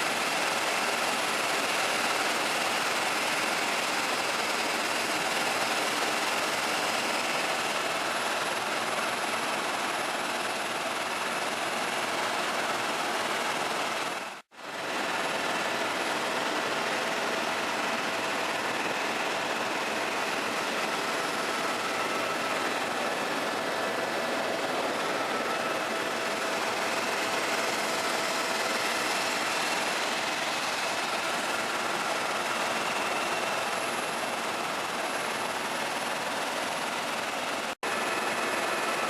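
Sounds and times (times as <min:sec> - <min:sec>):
helicopter engine and rotor noise: 0:00.0 - 0:39.0.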